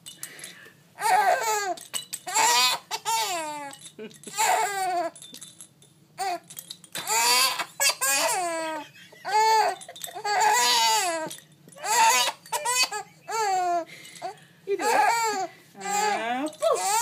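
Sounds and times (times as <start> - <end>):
baby girl laughing and squealing: 1.0 - 5.2, 6.2 - 17.0.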